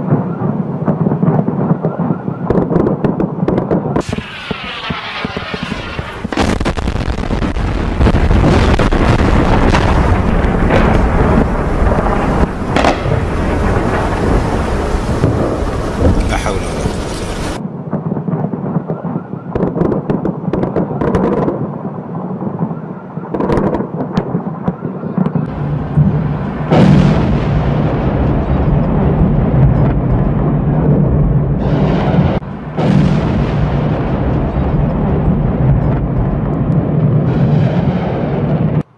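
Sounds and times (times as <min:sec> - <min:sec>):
deep continuous rumble: 0:00.0 - 0:18.9, 0:19.5 - 0:38.9
explosion blasts: 0:00.0 - 0:38.9.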